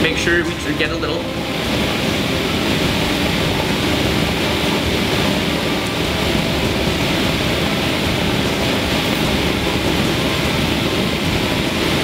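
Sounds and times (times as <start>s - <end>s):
bunsen burner flame rushing: 0.0s - 12.0s.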